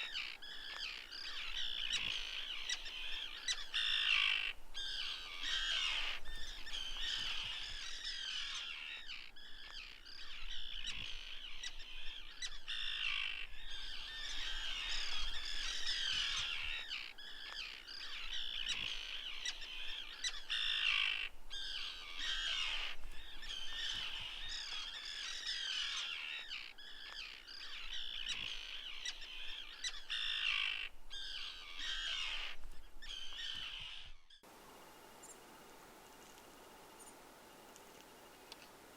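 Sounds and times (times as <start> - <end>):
chorus of birds calling: 0.0 - 34.5.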